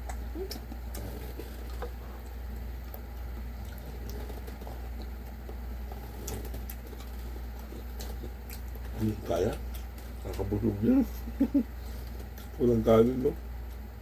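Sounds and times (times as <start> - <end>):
chewing food: 0.0 - 14.0
steady low hum: 0.0 - 14.0.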